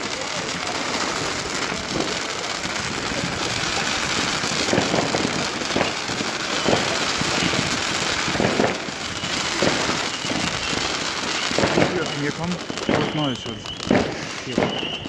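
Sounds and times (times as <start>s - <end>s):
fireworks crackling: 0.0s - 15.0s
fireworks popping: 0.0s - 15.0s.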